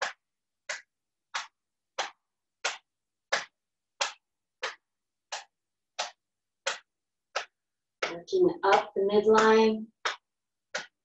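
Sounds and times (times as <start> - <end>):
hand tapping on belly: 0.0 - 11.0.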